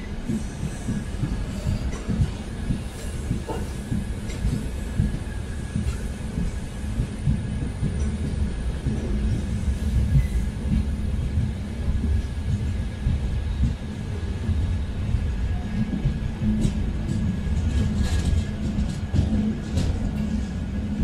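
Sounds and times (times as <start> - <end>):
freight wagons rumbling on rails: 0.0 - 21.0.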